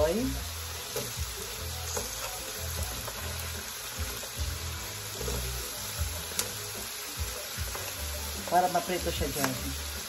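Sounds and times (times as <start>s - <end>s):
hot oil sizzling in a pot: 0.0s - 10.0s.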